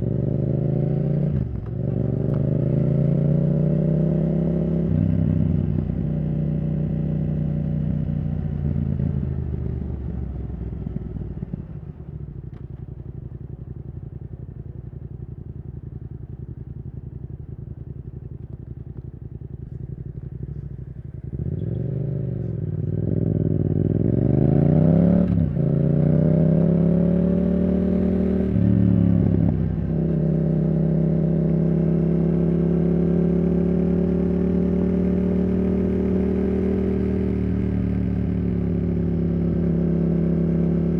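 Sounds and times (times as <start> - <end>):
motorcycle engine accelerating: 0.0 - 13.4, 15.4 - 40.9.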